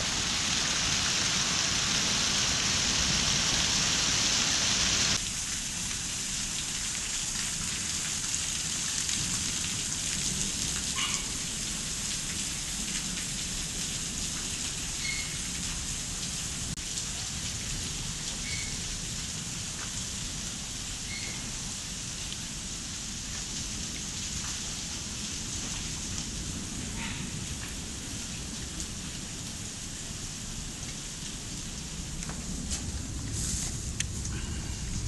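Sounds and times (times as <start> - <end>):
hail and rain pelting: 0.0 - 35.0.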